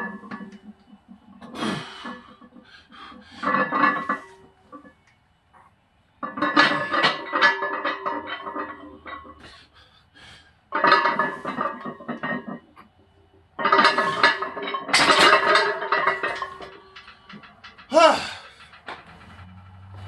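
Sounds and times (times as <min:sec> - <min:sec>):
barbell plates clanking: 0:00.0 - 0:09.6, 0:10.7 - 0:20.0.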